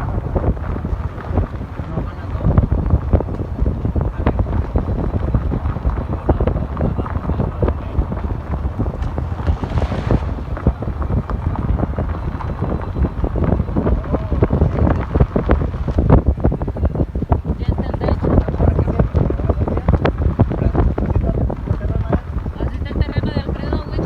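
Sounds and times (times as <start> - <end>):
car rumbling over dirt track: 0.0 - 24.0
wind buffeting microphone: 0.0 - 24.0.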